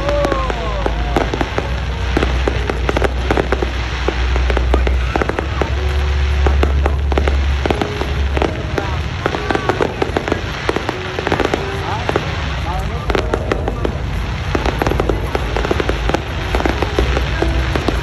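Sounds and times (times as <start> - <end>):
fireworks crackling: 0.0 - 18.0
low rumble: 0.0 - 18.0.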